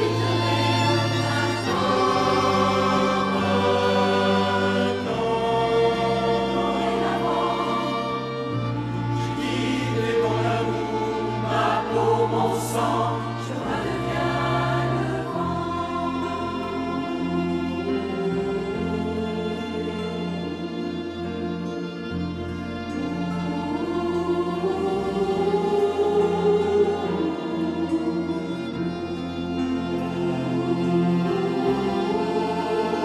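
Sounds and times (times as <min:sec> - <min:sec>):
choir singing held chords: 0:00.0 - 0:33.0
strings accompaniment: 0:00.0 - 0:33.0.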